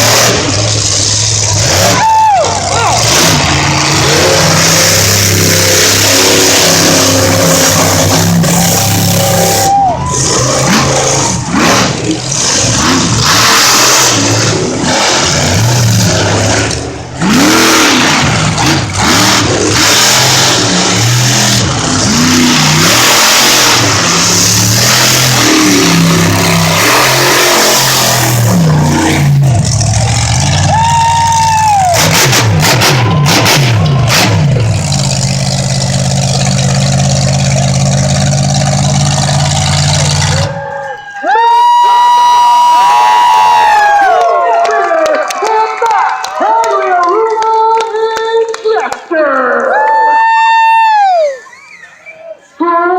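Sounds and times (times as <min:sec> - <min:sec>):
monster truck engine revving: 0:00.0 - 0:52.2.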